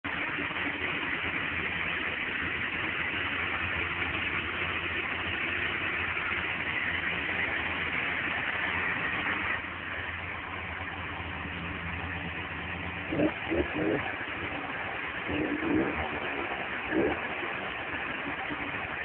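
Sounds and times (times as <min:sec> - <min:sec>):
snowmobile engine idling: 0:00.0 - 0:19.0.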